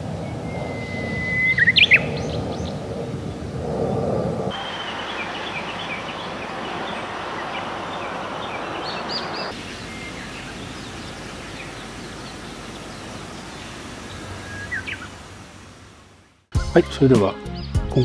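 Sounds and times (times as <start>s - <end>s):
background hiss: 0.0s - 16.5s
small birds chirping: 0.0s - 16.5s.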